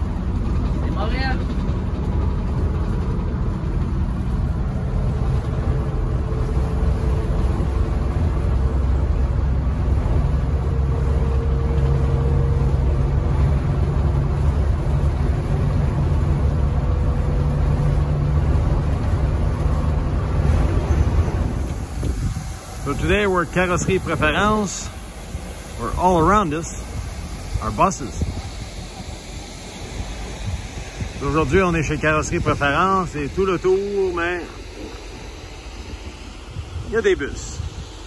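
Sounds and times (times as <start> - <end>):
diesel engine drone: 0.0 - 38.0
road and wind noise: 0.0 - 38.0.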